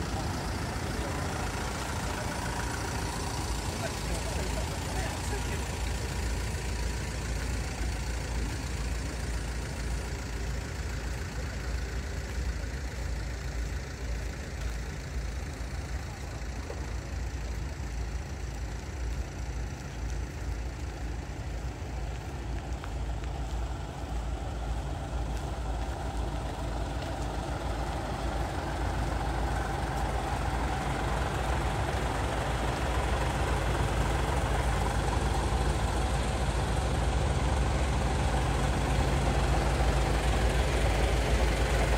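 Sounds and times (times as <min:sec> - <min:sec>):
truck engine rumbling: 0:00.0 - 0:41.9.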